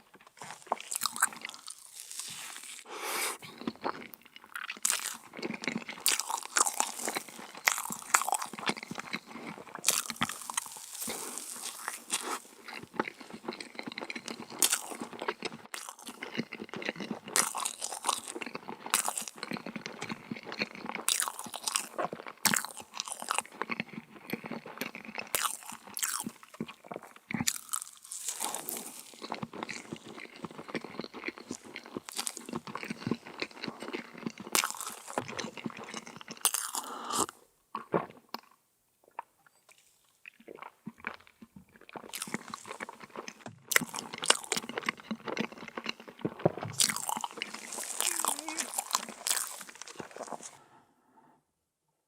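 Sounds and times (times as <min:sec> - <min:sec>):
crunching and chewing cookie: 0:00.0 - 0:50.8.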